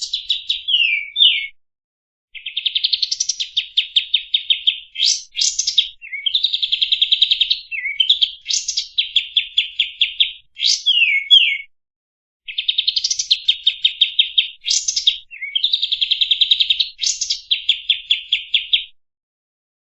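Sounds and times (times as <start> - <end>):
songbird singing trills and whistles: 0.0 - 1.6, 2.4 - 11.7, 12.5 - 19.0.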